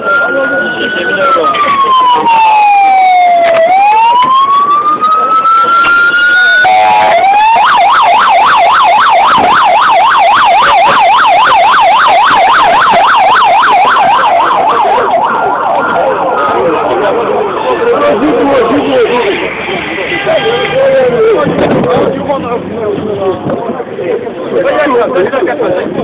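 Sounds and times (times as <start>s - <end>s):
emergency vehicle siren: 0.0s - 22.1s.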